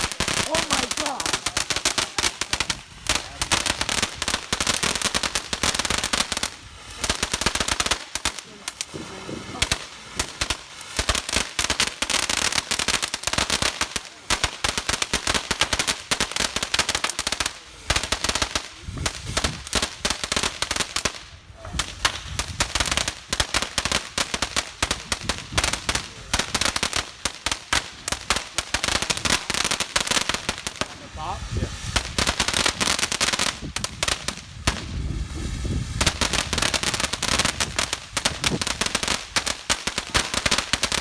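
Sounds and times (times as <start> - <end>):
fireworks popping and banging: 0.0 - 41.0.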